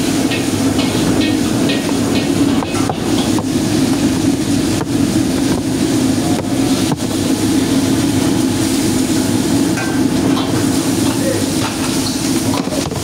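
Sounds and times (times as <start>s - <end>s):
gas wok burner roaring: 0.0s - 13.0s.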